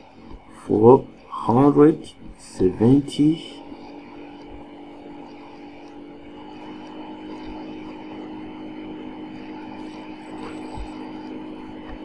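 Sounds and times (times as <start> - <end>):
droning mechanical hum: 0.0 - 12.0.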